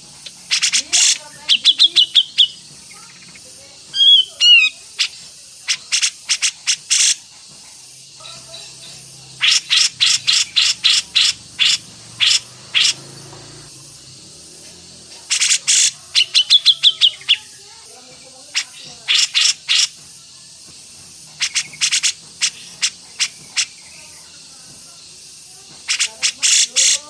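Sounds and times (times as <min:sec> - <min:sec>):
songbird harsh notes: 0:00.0 - 0:07.3, 0:08.0 - 0:20.0, 0:21.2 - 0:24.4, 0:25.8 - 0:27.0.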